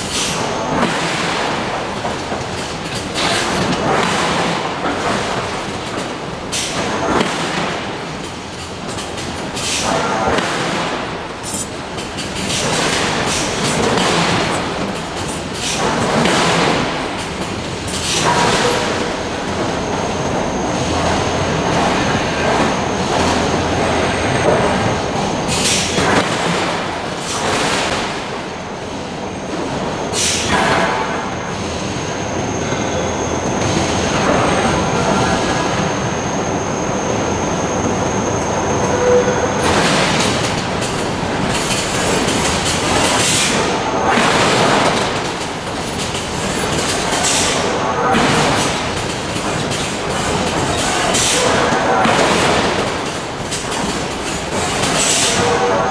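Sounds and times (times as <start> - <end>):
steady machinery noise: 0.0 - 55.9.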